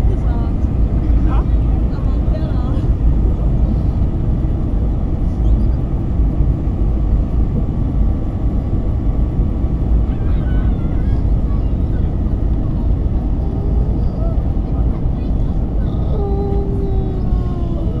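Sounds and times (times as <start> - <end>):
faint voices: 0.0 - 6.0, 9.3 - 18.0
airliner cabin engine rumble: 0.0 - 18.0.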